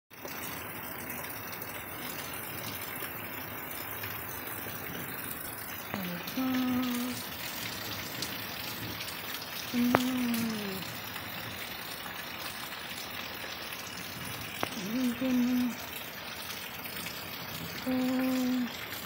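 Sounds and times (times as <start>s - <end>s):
steady rain falling: 0.1s - 19.0s.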